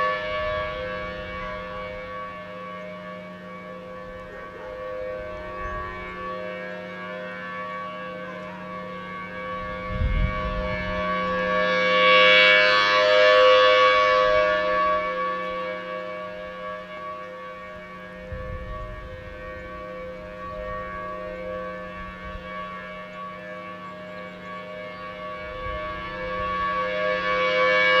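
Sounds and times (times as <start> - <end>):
warning siren wailing: 0.0 - 28.0.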